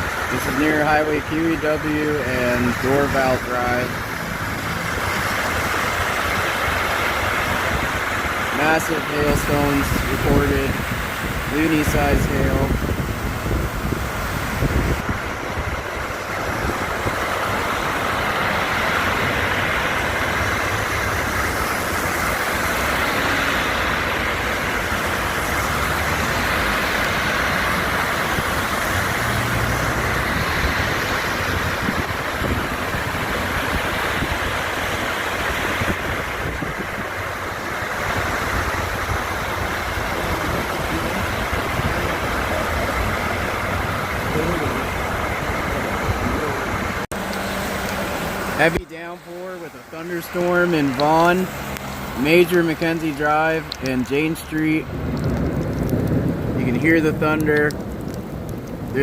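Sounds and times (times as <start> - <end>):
car road noise: 0.0 - 59.0.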